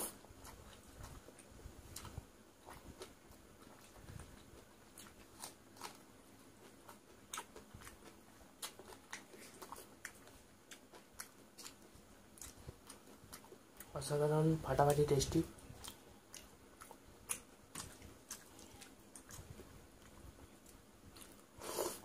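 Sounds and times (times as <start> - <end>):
person chewing rice: 0.0 - 14.2, 15.5 - 22.0.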